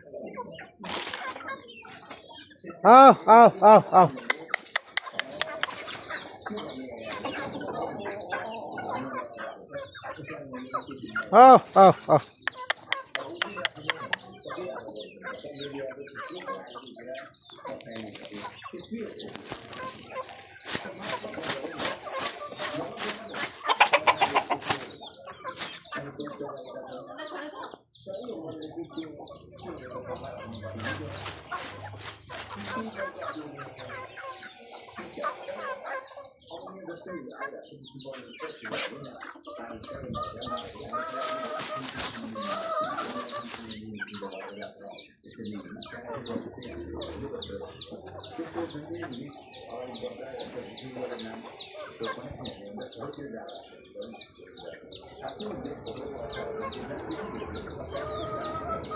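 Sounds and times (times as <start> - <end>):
chickens clucking: 0.0 - 58.9
chicks peeping: 0.0 - 58.9.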